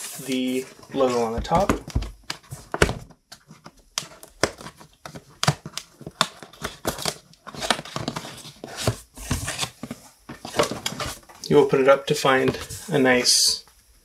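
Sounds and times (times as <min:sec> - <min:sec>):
cardboard crinkling and tearing: 0:00.0 - 0:11.2.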